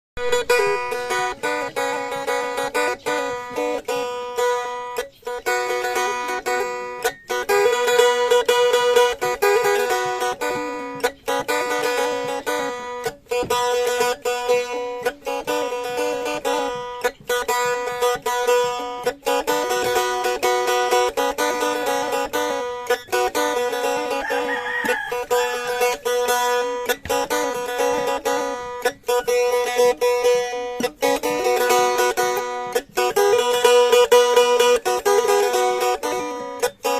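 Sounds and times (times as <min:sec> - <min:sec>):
plucked lute melody over drone: 0:00.2 - 0:36.9.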